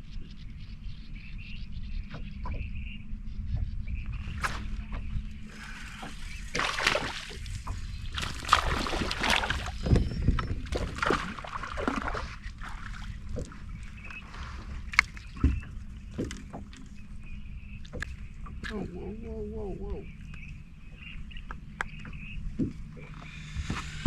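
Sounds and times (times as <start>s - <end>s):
low steady hum: 0.0s - 24.0s
water sloshing against boat hull: 4.2s - 24.0s.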